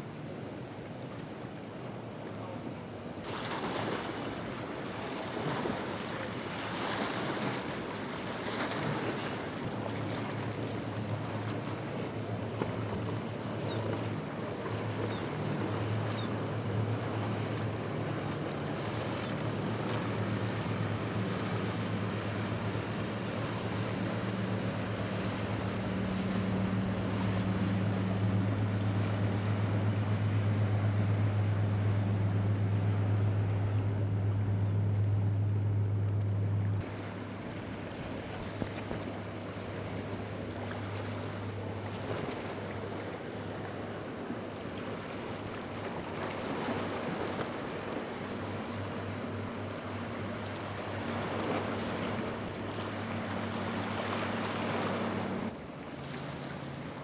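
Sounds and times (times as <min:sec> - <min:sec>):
boat engine droning: 0:00.0 - 0:57.0
waves rushing: 0:00.0 - 0:57.0
wind: 0:00.0 - 0:57.0.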